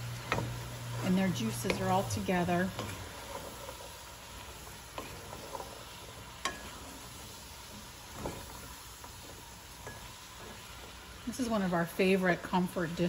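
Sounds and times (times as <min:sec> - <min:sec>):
beans and beef sizzling in a pot: 0:00.0 - 0:13.0
wooden spoon knocking and scraping pot: 0:00.2 - 0:10.9.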